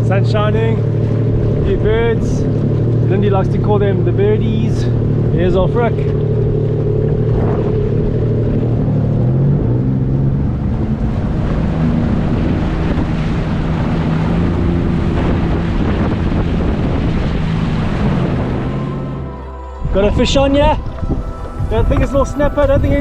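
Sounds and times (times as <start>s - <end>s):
water rushing past hull: 0.0s - 23.0s
watercraft engine running: 0.0s - 23.0s
wind buffeting microphone: 0.0s - 23.0s.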